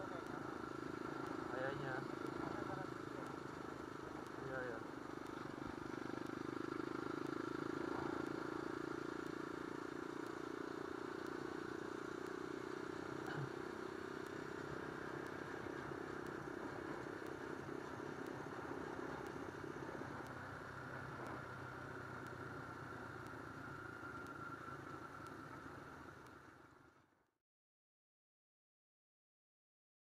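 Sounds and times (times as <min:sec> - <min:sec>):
motorcycle engine running: 0:00.0 - 0:27.1.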